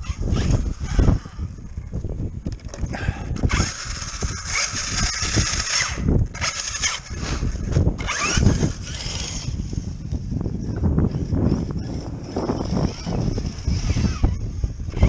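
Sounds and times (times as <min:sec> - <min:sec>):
rc truck motor hissing and whining: 0:00.0 - 0:01.7, 0:02.9 - 0:15.0.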